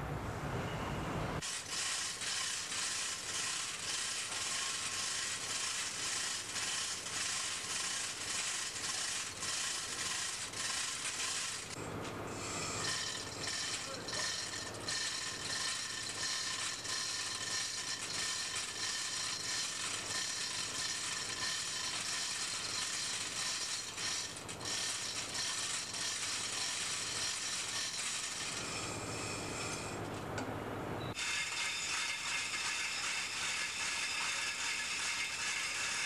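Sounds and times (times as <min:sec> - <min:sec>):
machinery clatter and hum: 0:01.4 - 0:36.0.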